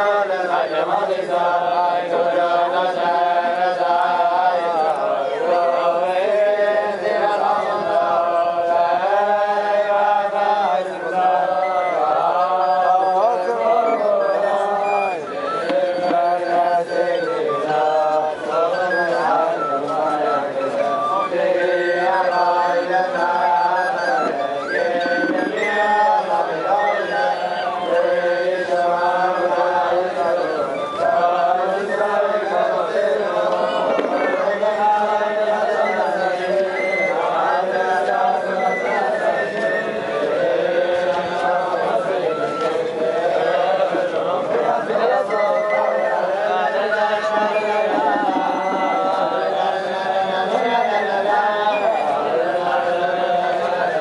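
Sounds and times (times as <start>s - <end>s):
men singing a chant together: 0.0s - 54.0s.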